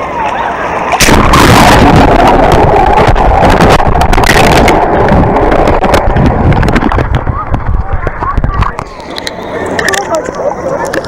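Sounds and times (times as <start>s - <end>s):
loud rushing water: 0.0s - 10.3s
wind buffeting microphone: 0.8s - 11.0s.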